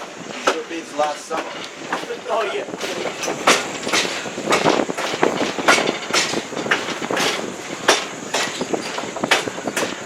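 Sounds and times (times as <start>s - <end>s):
train coach rumbling: 0.0s - 10.0s
wheels clanking on rail joints: 0.0s - 10.0s.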